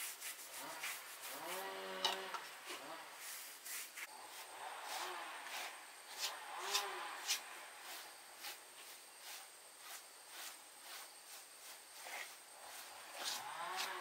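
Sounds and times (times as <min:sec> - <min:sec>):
rhythmic rubbing strokes: 0:00.0 - 0:14.0.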